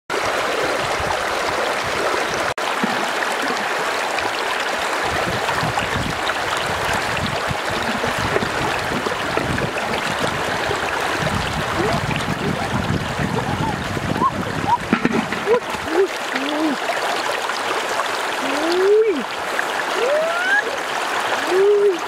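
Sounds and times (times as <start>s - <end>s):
stream rushing over rocks: 0.1s - 22.0s.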